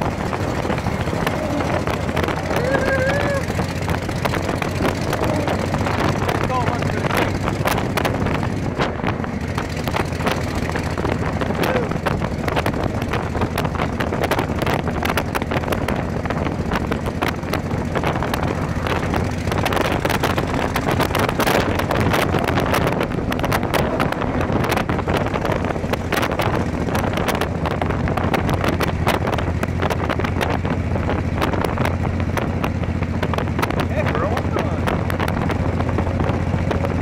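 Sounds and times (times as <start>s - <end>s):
motorcycle engine cruising: 0.0s - 37.0s
road and wind noise: 0.0s - 37.0s
wind buffeting on microphone: 0.0s - 37.0s.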